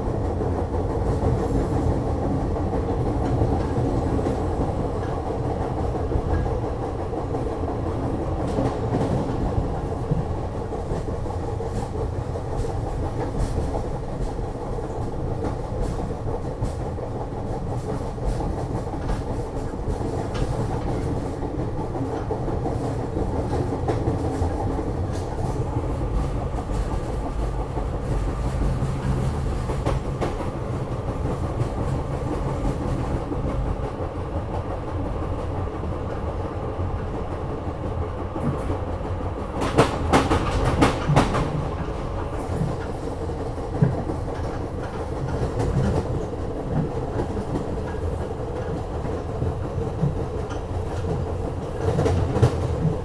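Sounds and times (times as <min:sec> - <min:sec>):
train rumbling inside passenger car: 0:00.0 - 0:53.0.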